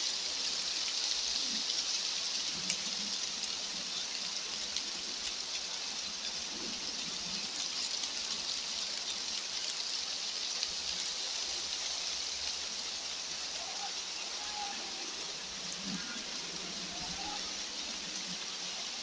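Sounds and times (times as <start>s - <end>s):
high hiss with faint ticks: 0.0s - 19.0s.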